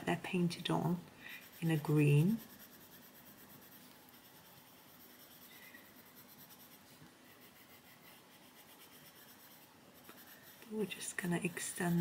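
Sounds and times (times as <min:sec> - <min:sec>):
pencil shading on paper: 0:00.3 - 0:12.0.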